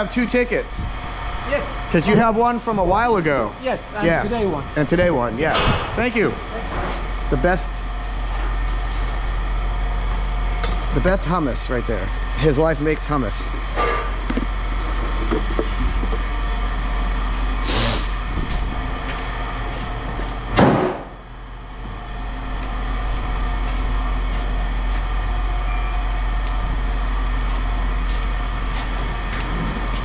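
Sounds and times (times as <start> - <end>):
heavy machinery running: 0.0 - 30.0.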